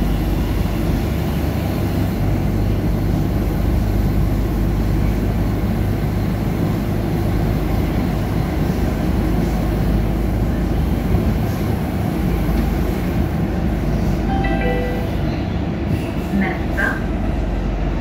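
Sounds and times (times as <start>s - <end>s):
metro train rumbling on rails: 0.0s - 18.0s.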